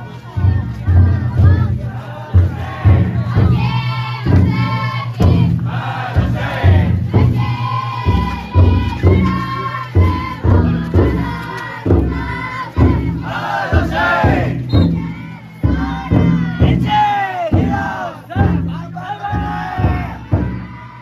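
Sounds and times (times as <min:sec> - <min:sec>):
big drum beat: 0:00.0 - 0:21.0
group chanting and shouting: 0:00.0 - 0:21.0.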